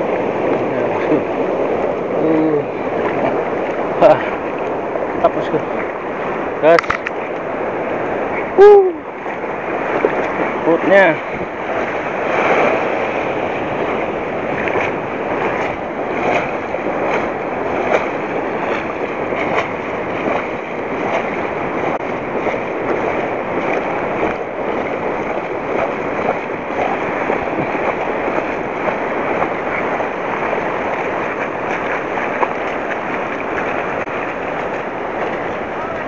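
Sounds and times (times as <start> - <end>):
surf washing over sand: 0.0 - 36.0
wind on microphone: 0.0 - 36.0.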